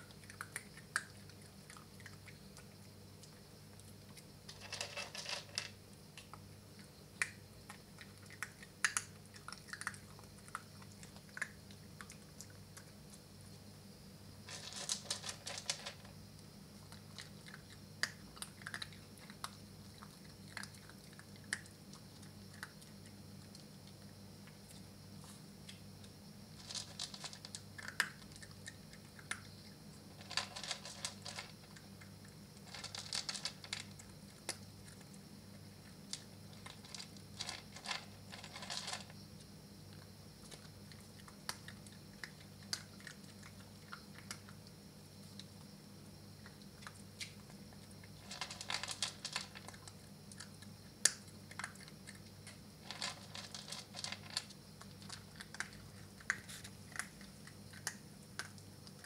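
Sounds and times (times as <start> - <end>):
puppy crunching dry kibble: 0.0 - 13.3, 14.4 - 16.2, 16.8 - 24.9, 26.5 - 45.7, 46.4 - 59.0
steady low hum: 0.0 - 59.0.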